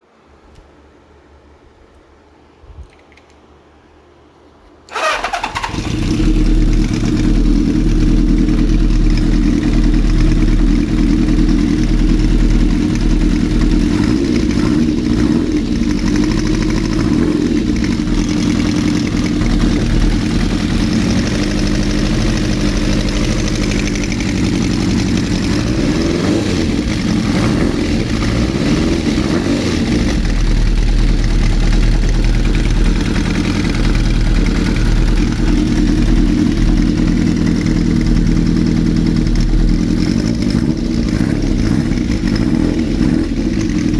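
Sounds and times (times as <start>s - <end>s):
motorcycle engine starting and idling: 4.9s - 43.9s.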